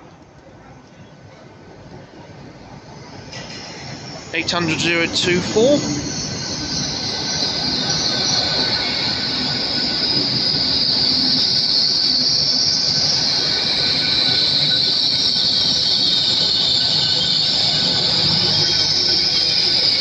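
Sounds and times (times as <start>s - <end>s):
train wheels rumbling: 1.2s - 20.0s
train brake squeal: 2.8s - 20.0s.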